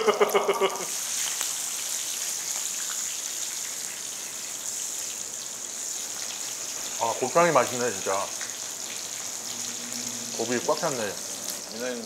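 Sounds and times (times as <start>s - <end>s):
meat sizzling on grill pan: 0.2s - 12.0s.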